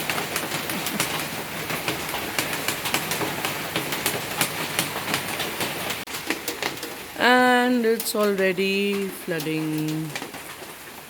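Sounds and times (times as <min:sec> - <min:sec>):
heavy rain on wet ground: 0:00.0 - 0:11.0.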